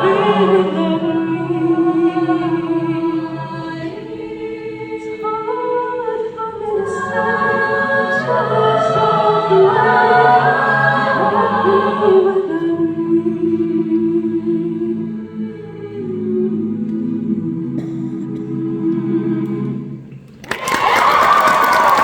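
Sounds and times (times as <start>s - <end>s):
a cappella group singing harmony: 0.0s - 20.3s.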